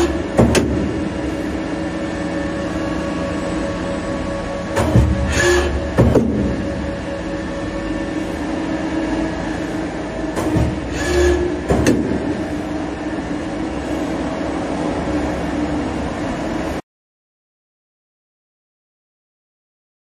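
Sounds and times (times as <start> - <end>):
faint machine whine: 0.0 - 16.8
lathe running: 0.0 - 16.8.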